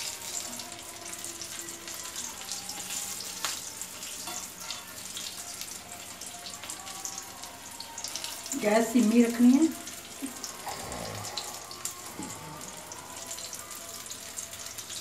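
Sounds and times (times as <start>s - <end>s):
oil sizzling while deep-frying: 0.0s - 15.0s.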